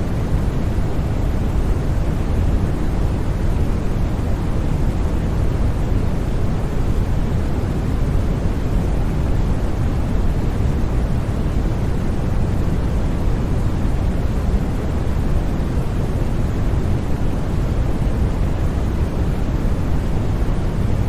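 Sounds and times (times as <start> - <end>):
deep rumbling white noise: 0.0 - 21.0.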